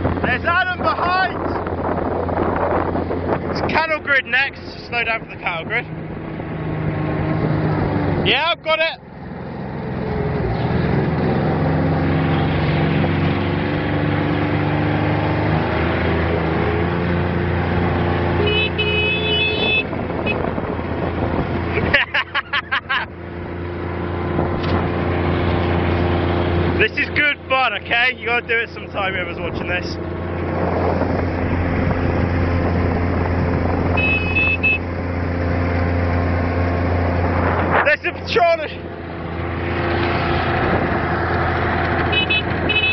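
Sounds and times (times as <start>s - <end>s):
utility vehicle engine pulling uphill: 0.0s - 42.9s.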